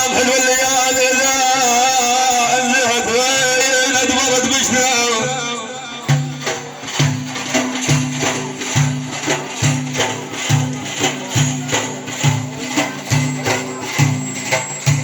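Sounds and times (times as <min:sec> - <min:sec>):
jingly percussion beat: 0:00.0 - 0:15.0.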